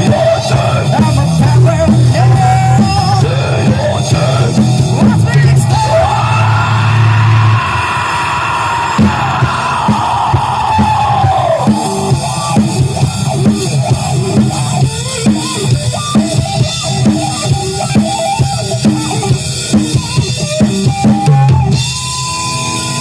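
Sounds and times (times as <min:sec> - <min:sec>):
drum kit beat: 0:00.0 - 0:23.0
live rock band playing: 0:00.0 - 0:23.0.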